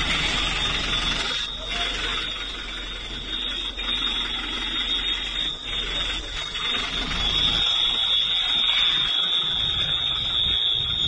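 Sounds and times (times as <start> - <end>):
high-pitched electronic alarm tone: 0.0 - 11.0
rough background noise: 0.0 - 11.0.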